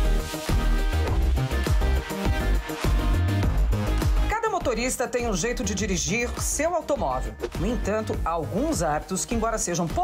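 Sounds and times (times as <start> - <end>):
electronic music with bass beat: 0.0 - 10.0.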